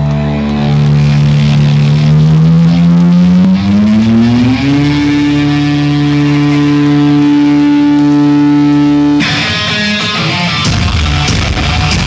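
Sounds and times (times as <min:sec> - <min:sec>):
electric guitar drone sliding up: 0:00.0 - 0:12.0.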